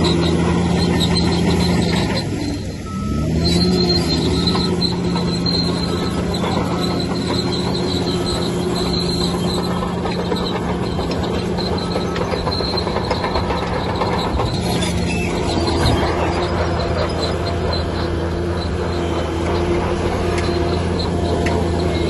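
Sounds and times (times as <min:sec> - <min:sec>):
bulldozer engine running: 0:00.0 - 0:22.0
high squeal: 0:00.0 - 0:22.0.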